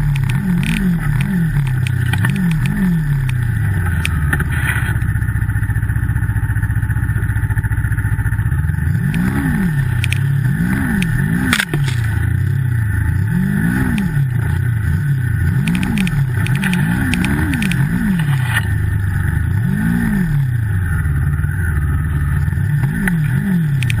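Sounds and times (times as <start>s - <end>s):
snowmobile engine revving: 0.0s - 5.1s, 8.7s - 24.0s.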